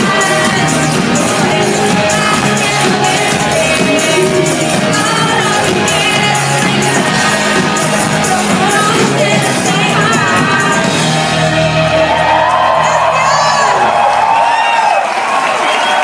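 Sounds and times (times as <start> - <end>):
woman singing: 0.0 - 13.8
electric guitar: 0.0 - 14.3
live pop band: 0.0 - 16.0.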